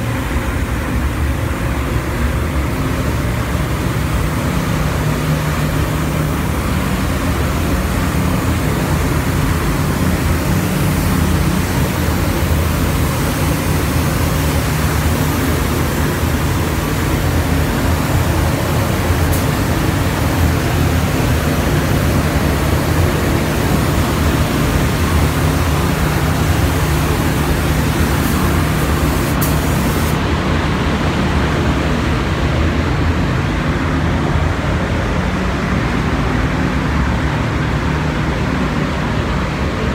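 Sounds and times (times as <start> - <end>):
ventilation fans rushing air: 0.0 - 39.9.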